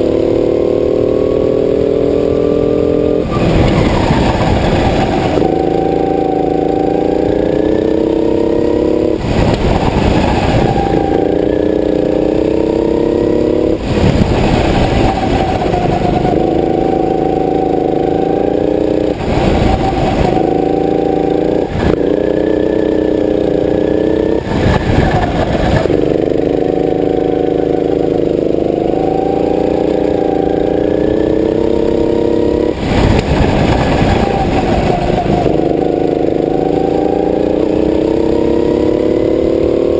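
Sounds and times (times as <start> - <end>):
go-kart engine revving high: 0.0 - 39.9.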